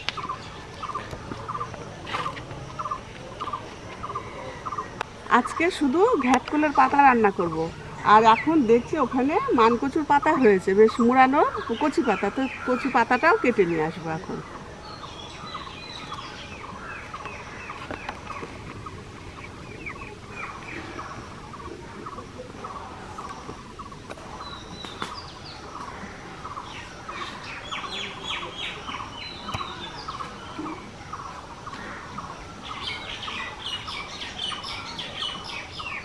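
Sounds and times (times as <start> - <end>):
birds chirping and calling: 0.0 - 36.0.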